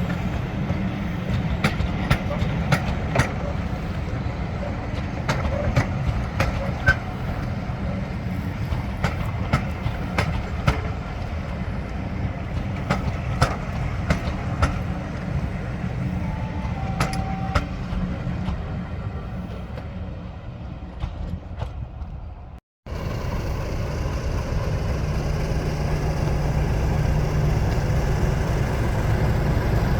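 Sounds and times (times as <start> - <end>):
train rumbling on rails: 0.0 - 29.9.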